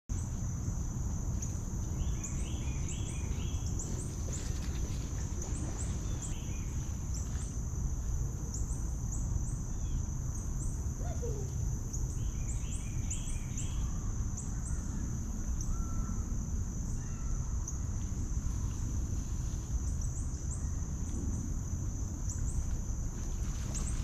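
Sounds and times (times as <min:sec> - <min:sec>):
insect drone: 0:00.1 - 0:24.0.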